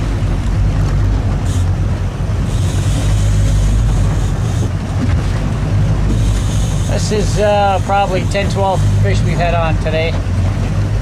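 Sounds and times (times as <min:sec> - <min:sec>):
boat engine humming: 0:00.0 - 0:11.0
water noise: 0:00.0 - 0:11.0
wind: 0:00.0 - 0:11.0.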